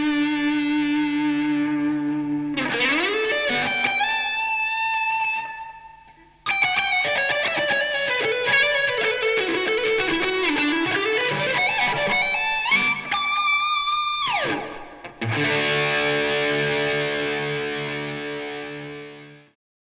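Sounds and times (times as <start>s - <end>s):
electric guitar playing: 0.0s - 19.6s.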